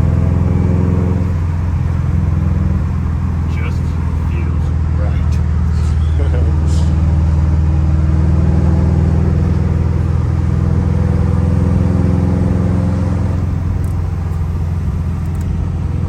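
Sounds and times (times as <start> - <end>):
car engine running steadily: 0.0 - 16.0.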